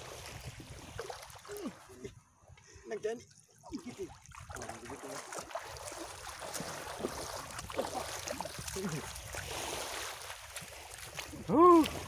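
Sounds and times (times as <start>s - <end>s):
seawater washing at shore: 0.0s - 2.2s, 2.8s - 12.0s.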